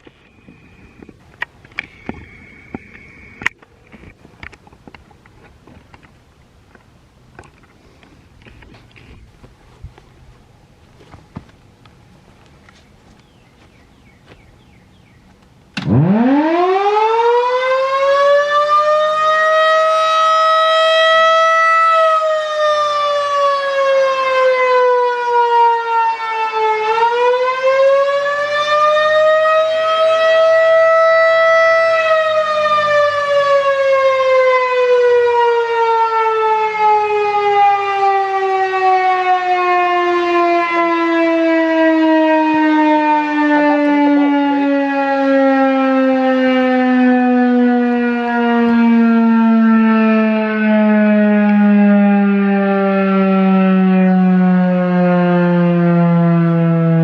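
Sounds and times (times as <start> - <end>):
warning siren wailing: 0.0 - 4.5, 12.0 - 57.0.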